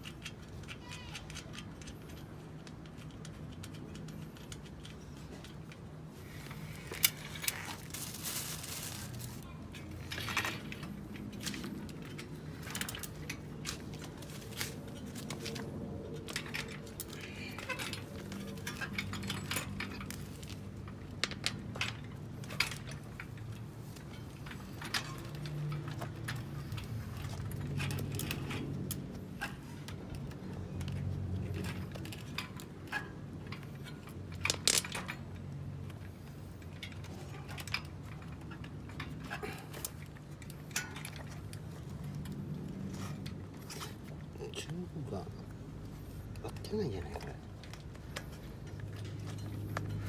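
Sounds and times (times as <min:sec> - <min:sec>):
metallic clicks of tools and bicycle parts: 0:00.0 - 0:07.9, 0:09.7 - 0:44.2, 0:45.5 - 0:50.0.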